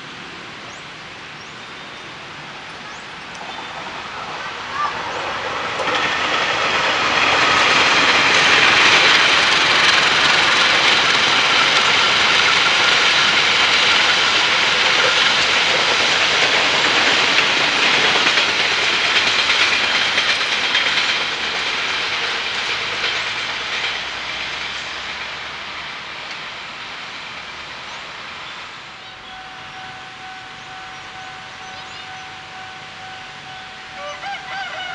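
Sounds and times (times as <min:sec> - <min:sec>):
train passing on rails: 0:00.0 - 0:34.9.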